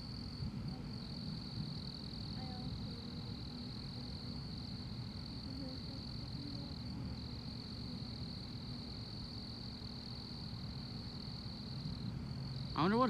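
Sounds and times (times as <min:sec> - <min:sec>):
crickets chirping: 0:00.0 - 0:13.0
low steady rumble: 0:00.0 - 0:13.0.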